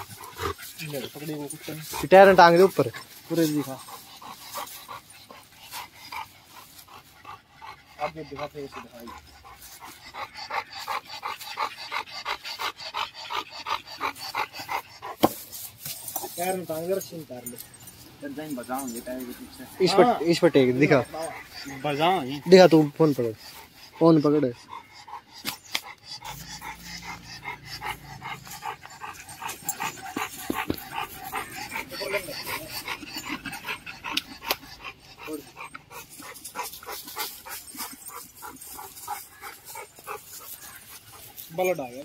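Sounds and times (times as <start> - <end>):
dog panting rapidly: 0.0 - 42.0.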